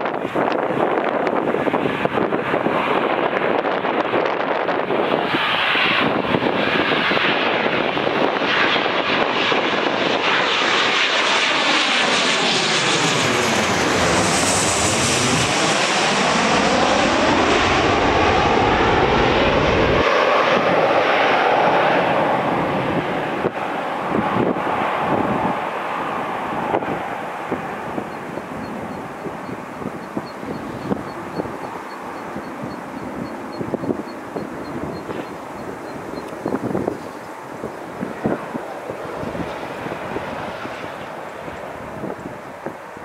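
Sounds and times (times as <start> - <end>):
jet engines passing overhead: 0.0 - 43.0.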